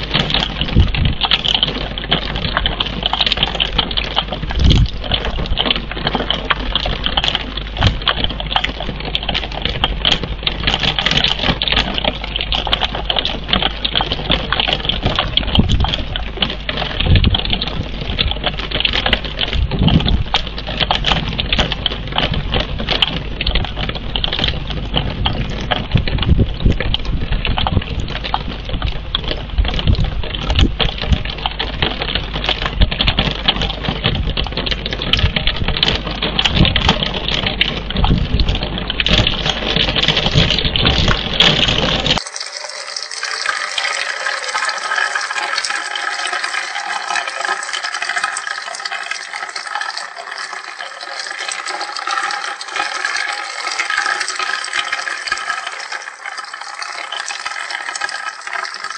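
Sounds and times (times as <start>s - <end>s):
steady rain with ticking drops: 0.0s - 58.9s.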